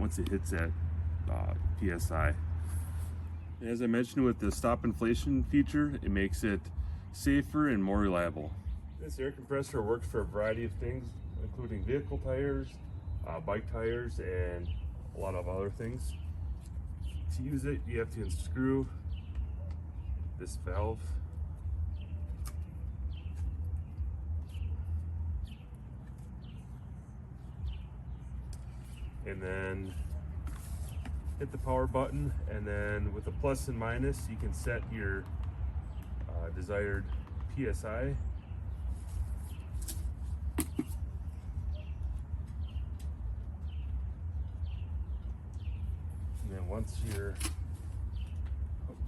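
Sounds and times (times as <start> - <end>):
bird chirping: 2.9 - 49.0.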